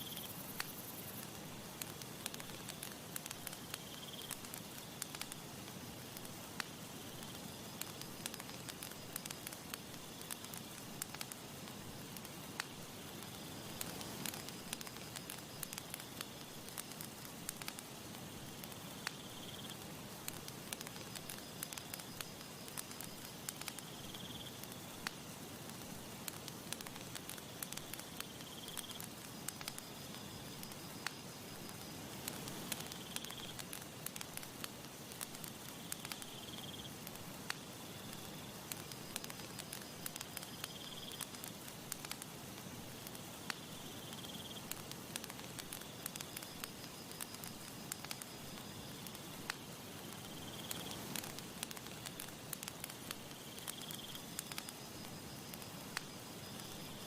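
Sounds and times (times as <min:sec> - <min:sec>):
campfire crackling and popping: 0:00.0 - 0:57.0
high insect trill: 0:00.0 - 0:57.0.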